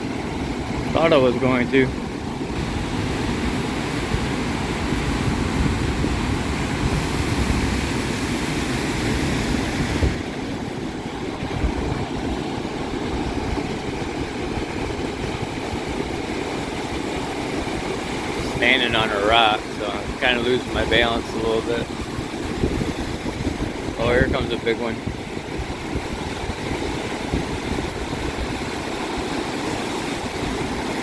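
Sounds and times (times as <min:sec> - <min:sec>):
waves breaking over rocks: 0:00.0 - 0:31.0.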